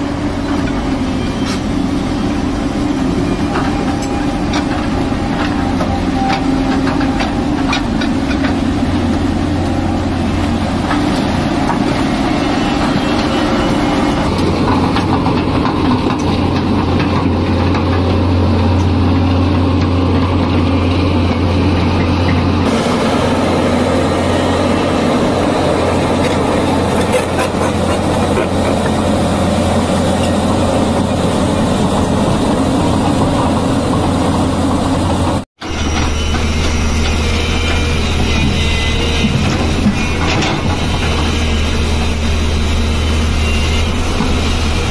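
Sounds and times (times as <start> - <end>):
excavator diesel engine humming: 0.0 - 44.9.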